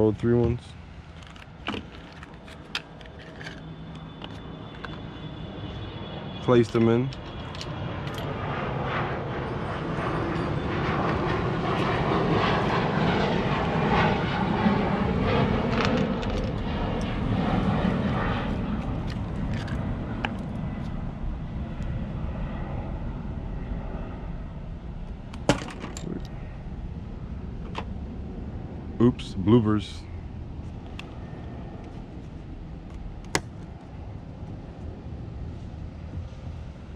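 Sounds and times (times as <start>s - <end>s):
passing engine rumble: 0.0s - 36.9s.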